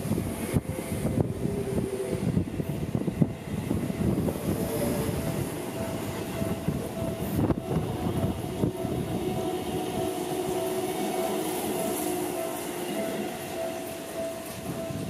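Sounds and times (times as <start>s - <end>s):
train wheels rumbling on rails: 0.0s - 15.0s
steady high tone: 0.3s - 15.0s.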